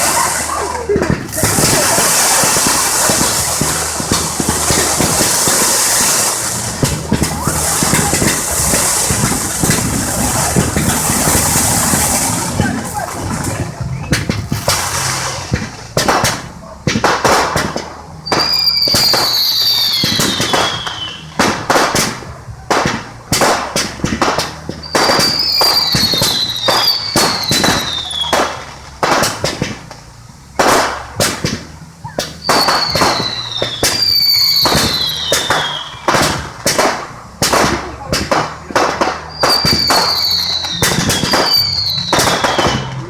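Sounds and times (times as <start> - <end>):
fireworks bangs and crackles: 0.0 - 43.0
whistling fireworks: 0.0 - 43.0.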